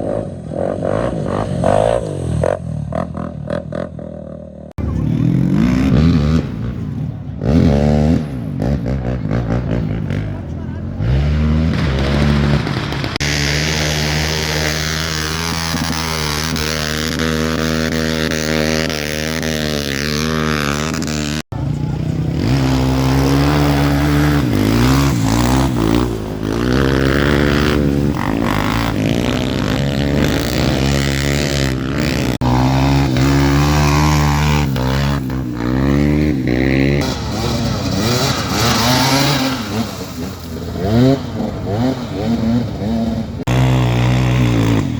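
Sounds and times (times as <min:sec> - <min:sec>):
motorcycle engines revving: 0:00.0 - 0:44.9.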